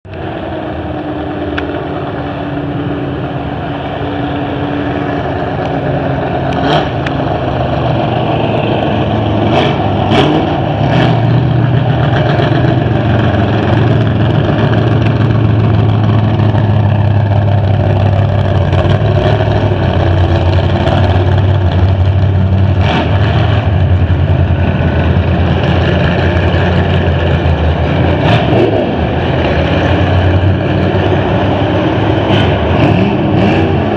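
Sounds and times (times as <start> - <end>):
racing car engines droning: 0.1 - 33.9.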